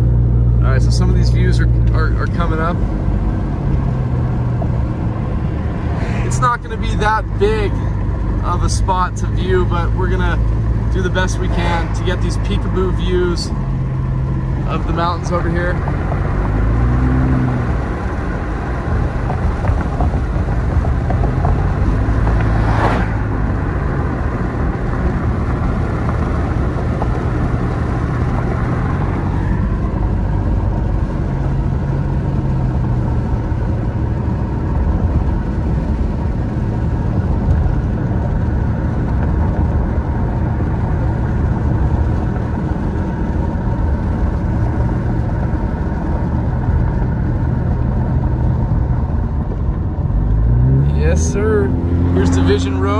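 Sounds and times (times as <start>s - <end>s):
car engine and tyre rumble: 0.0s - 52.9s.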